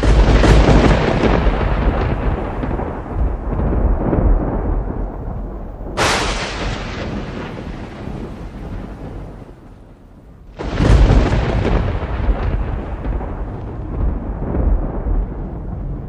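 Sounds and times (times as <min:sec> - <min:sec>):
thunder crack and rumble: 0:00.0 - 0:16.0.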